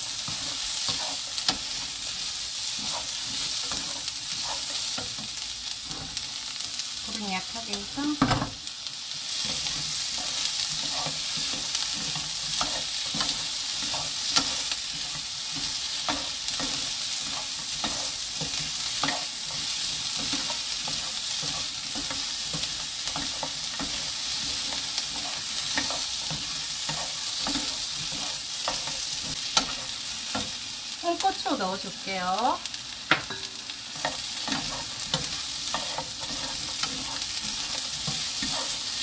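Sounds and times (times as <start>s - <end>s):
vegetables sizzling in oil: 0.0s - 39.0s
wooden spatulas scraping a pan: 0.3s - 5.3s, 9.3s - 30.6s, 34.0s - 39.0s.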